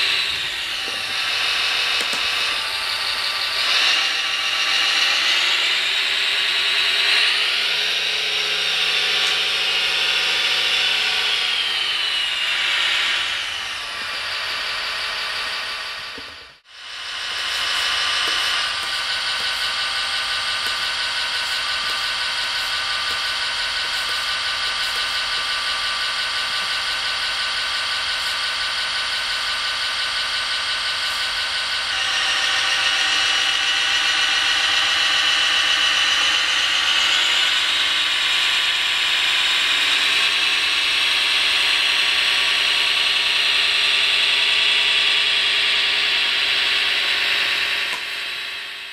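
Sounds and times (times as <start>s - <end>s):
model grader motors whining: 0.0s - 48.9s.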